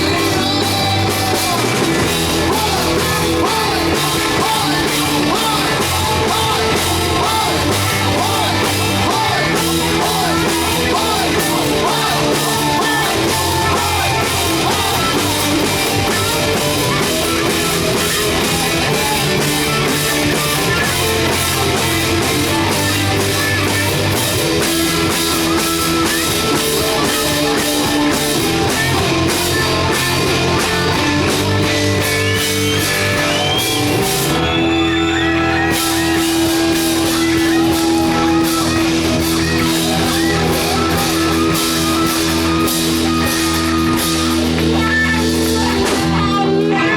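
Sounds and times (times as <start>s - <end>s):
person singing: 0.0s - 46.9s
rock band playing: 0.0s - 46.9s.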